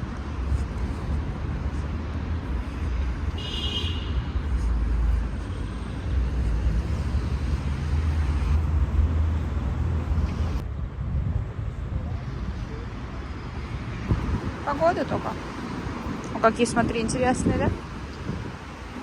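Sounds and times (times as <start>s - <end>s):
passing cars rumble: 0.0s - 19.0s.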